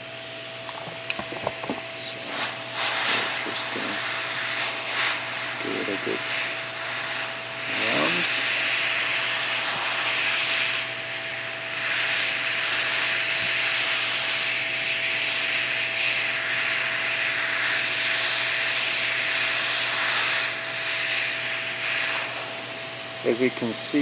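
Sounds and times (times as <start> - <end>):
heat gun blowing with whine: 0.0 - 24.0.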